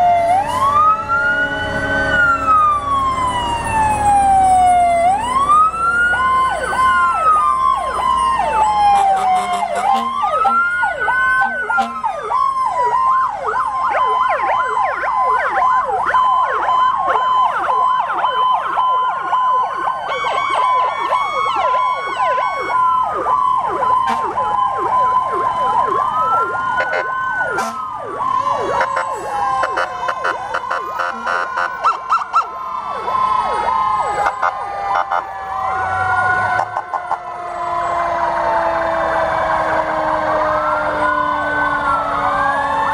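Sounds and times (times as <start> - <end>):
fire truck sirens wailing: 0.0 - 42.9
siren yelp: 0.0 - 42.9
steady siren tone: 0.0 - 42.9.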